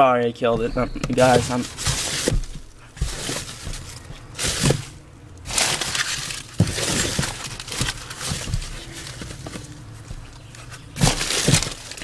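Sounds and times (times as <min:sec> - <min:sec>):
scraping and shuffling: 0:00.4 - 0:12.0
objects rustling and clattering: 0:00.5 - 0:12.0.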